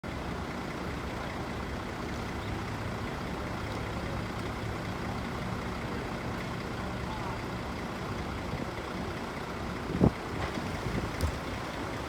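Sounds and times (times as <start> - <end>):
heavy machinery engine humming: 0.1 - 12.0.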